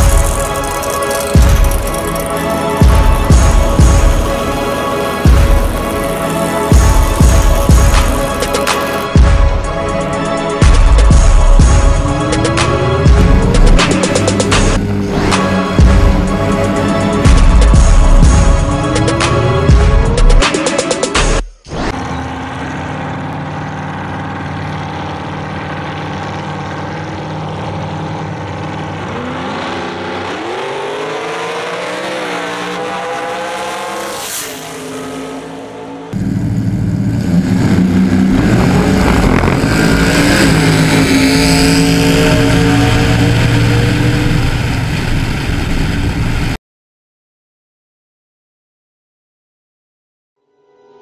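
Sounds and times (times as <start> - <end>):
drag race car engines accelerating: 0.0 - 21.0, 21.7 - 46.6
engine at full throttle: 0.0 - 21.1, 21.7 - 46.6.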